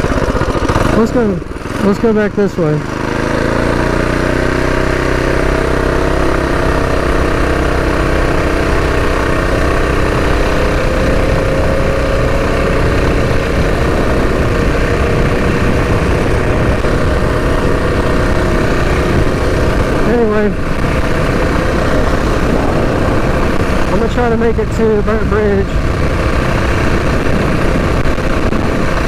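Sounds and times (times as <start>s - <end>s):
small engine running steadily: 0.0s - 29.0s.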